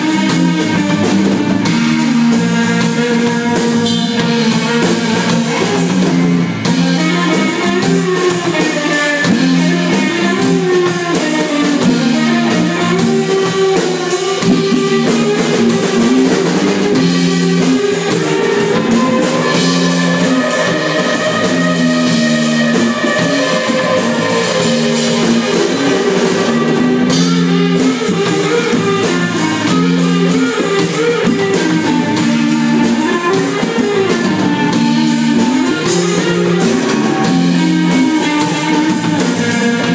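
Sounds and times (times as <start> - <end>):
rock band instrumental: 0.0 - 39.9.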